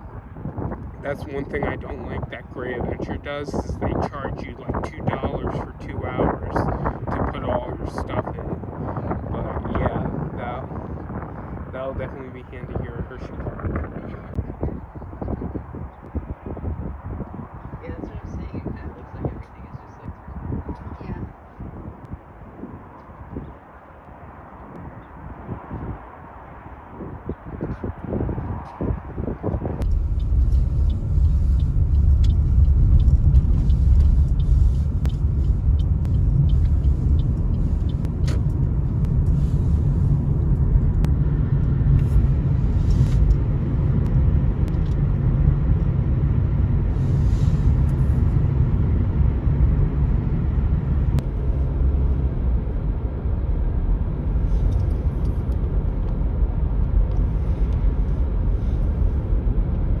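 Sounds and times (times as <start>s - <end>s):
motor vehicle rumbling: 0.0s - 60.0s.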